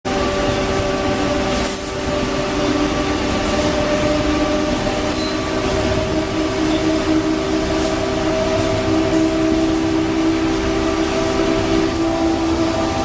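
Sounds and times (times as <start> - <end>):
train rumble: 0.0 - 13.0
electric locomotive hum: 0.1 - 13.0.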